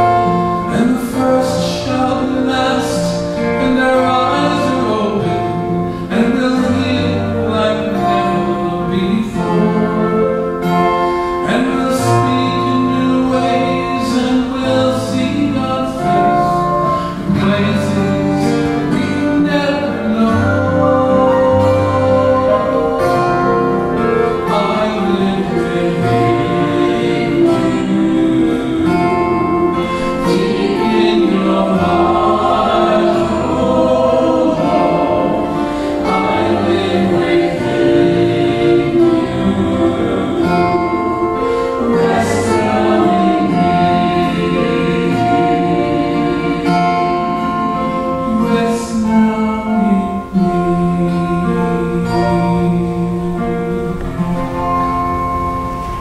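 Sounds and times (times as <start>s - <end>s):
people singing a hymn: 0.0s - 54.7s
acoustic guitar: 0.0s - 56.0s.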